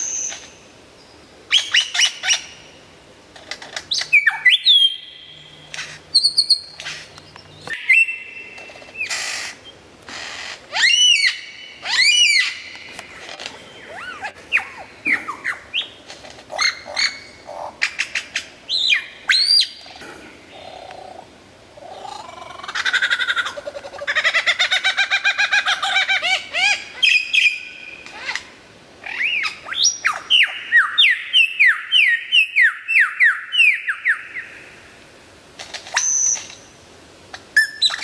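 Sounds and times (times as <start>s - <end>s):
lyrebird singing: 0.0s - 2.8s, 3.7s - 21.2s, 21.8s - 34.6s, 37.6s - 38.0s.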